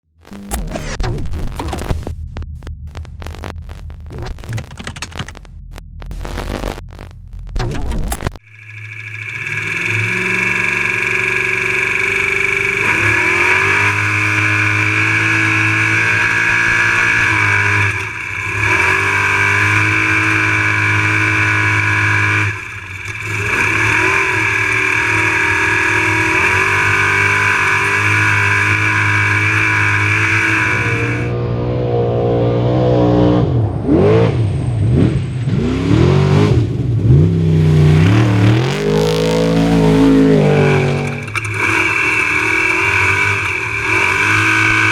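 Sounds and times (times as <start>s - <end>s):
truck engine at high revs: 0.0s - 44.9s.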